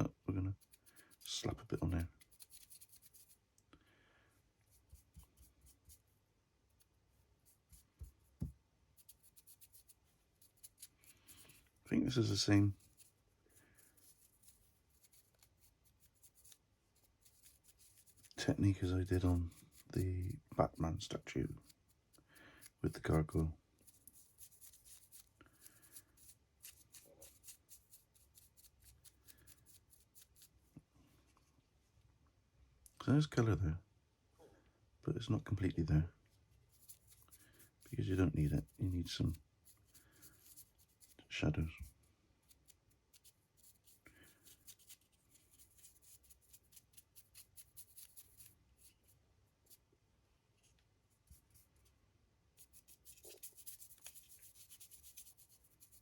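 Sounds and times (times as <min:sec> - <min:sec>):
paintbrush dabbing paint: 0:00.0 - 0:03.7, 0:04.4 - 0:30.7, 0:36.3 - 0:49.9, 0:50.6 - 0:56.0.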